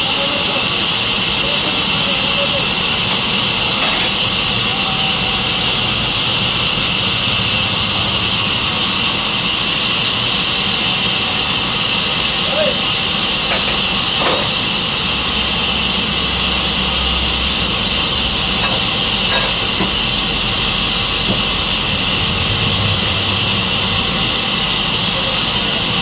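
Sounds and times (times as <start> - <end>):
sawmill saw running: 0.0 - 26.0.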